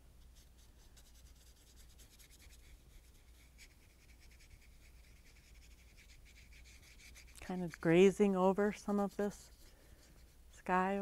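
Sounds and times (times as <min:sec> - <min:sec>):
low room hum: 0:00.0 - 0:11.0
paintbrush strokes on painting: 0:00.0 - 0:11.0.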